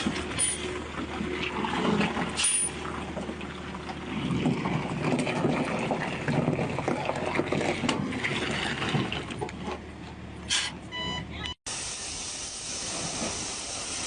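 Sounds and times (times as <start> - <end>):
truck engine hum: 0.0 - 14.0.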